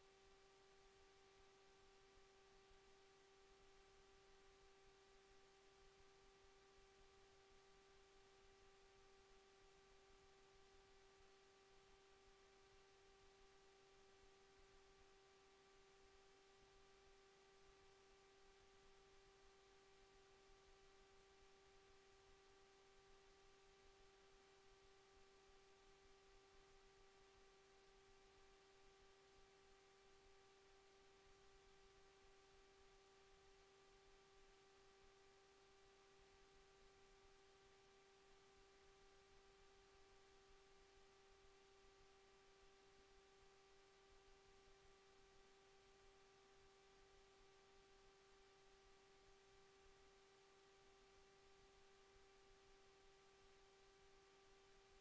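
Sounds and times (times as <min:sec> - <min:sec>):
faint high hum: 0:00.0 - 0:55.0.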